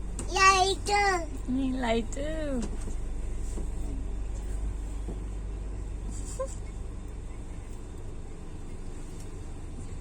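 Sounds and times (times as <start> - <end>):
train rumbling along track: 0.0 - 10.0.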